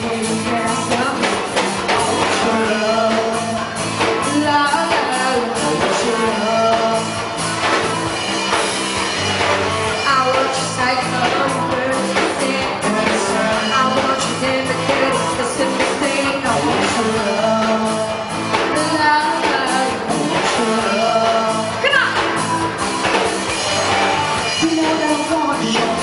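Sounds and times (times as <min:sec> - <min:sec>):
sung vocals: 0:00.0 - 0:08.2, 0:09.9 - 0:26.0
live pop-rock band: 0:00.0 - 0:26.0.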